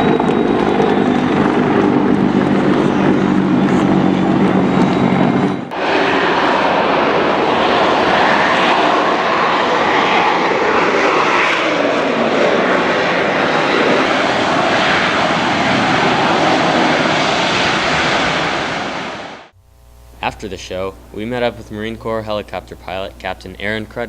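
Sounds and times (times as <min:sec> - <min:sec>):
aircraft engines roaring: 0:00.0 - 0:24.0.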